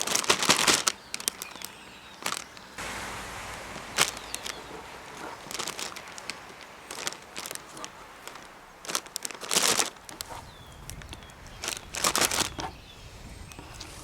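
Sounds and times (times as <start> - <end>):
crinkling rustling handling noise: 0.0 - 12.8.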